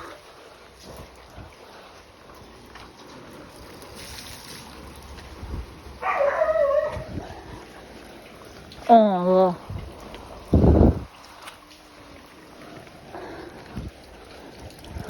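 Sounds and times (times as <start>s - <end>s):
faint outdoor noise: 0.0s - 15.0s.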